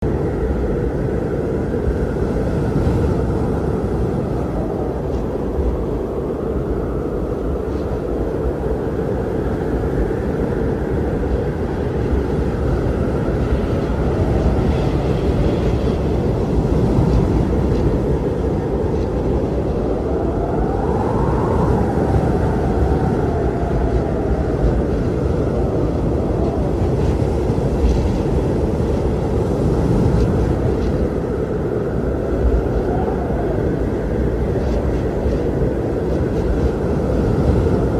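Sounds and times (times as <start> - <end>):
strong wind rumbling: 0.0 - 37.9
whistling wind howl: 0.0 - 37.9.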